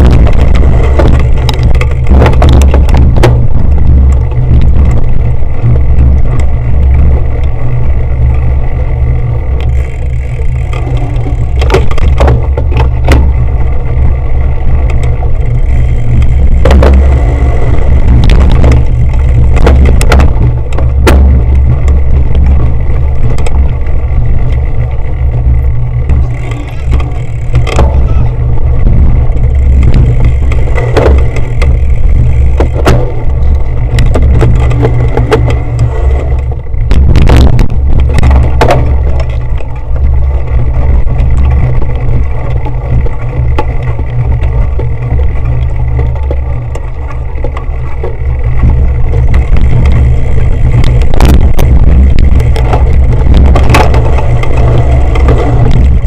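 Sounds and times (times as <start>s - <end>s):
bike clacks and rattles: 0.0s - 56.0s
bike ride rumble: 0.0s - 56.0s
wind noise: 0.0s - 56.0s.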